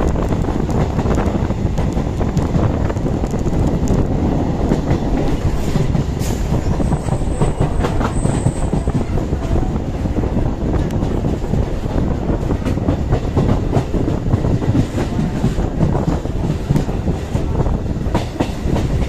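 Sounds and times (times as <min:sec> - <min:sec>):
train wheels rumbling on rails: 0:00.0 - 0:19.0
wind rushing past microphone: 0:00.0 - 0:19.0.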